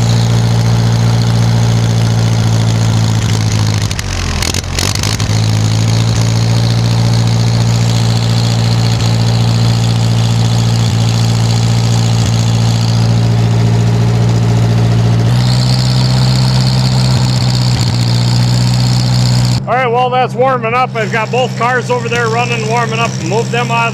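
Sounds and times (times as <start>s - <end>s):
snowblower engine running: 0.0s - 23.9s.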